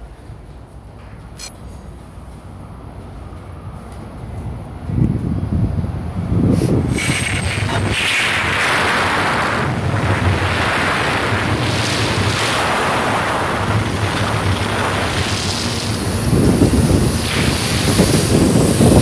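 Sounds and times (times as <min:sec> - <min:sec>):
train rushing past platform: 0:01.9 - 0:19.0.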